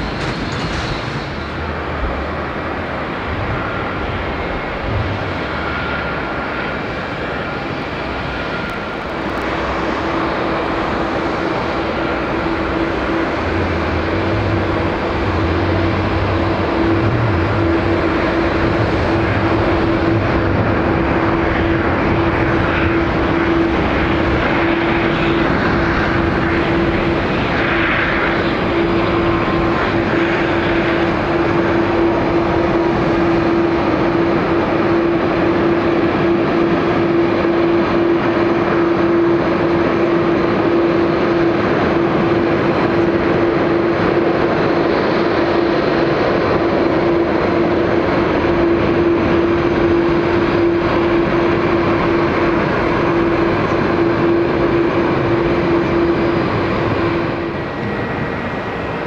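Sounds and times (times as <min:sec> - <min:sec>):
constant hum: 0:00.0 - 0:59.0
jet engines roaring: 0:00.0 - 0:59.0.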